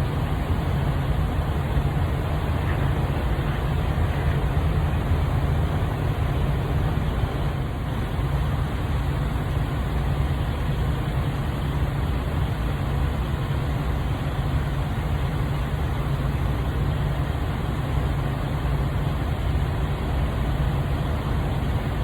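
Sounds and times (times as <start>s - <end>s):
diesel truck engines idling: 0.0s - 22.0s.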